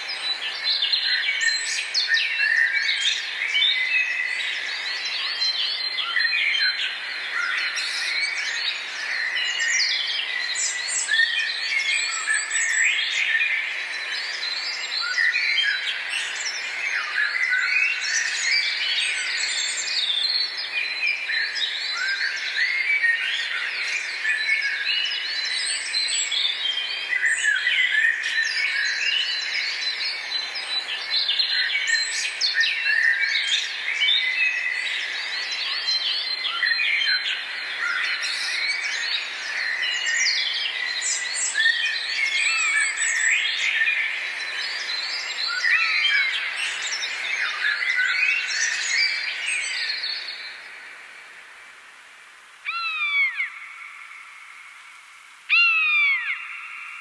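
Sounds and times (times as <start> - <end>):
birds singing and chirping: 0.0 - 50.9, 52.7 - 54.3, 55.5 - 57.0.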